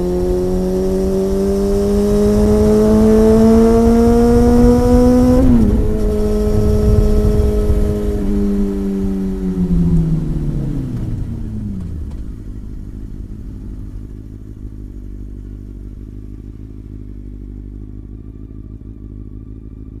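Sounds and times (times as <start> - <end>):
motorcycle engine slowing down: 0.0 - 20.0.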